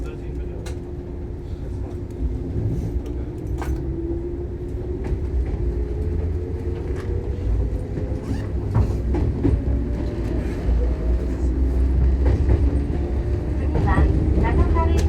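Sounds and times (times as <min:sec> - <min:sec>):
low train running rumble: 0:00.0 - 0:15.0.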